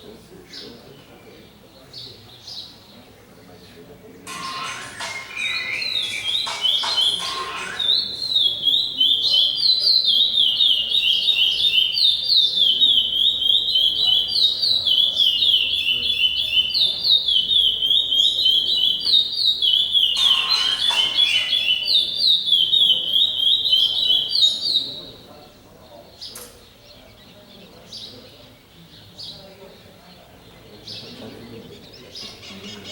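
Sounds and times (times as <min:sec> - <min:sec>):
songbird chirping song: 0:00.0 - 0:32.9.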